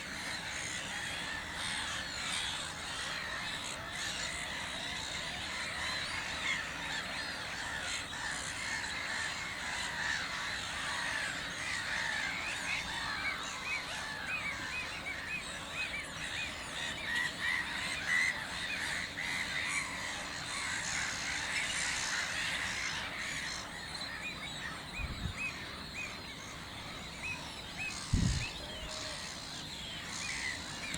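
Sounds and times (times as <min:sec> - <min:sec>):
steady outdoor hiss: 0:00.0 - 0:30.9
birds chirping: 0:05.4 - 0:30.9.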